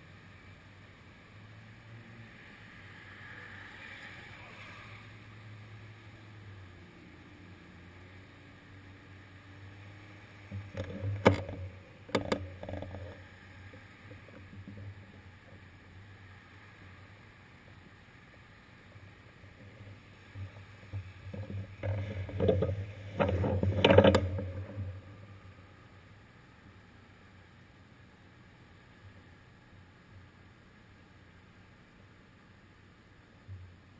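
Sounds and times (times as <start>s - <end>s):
muffled road traffic hum: 0.0s - 33.9s.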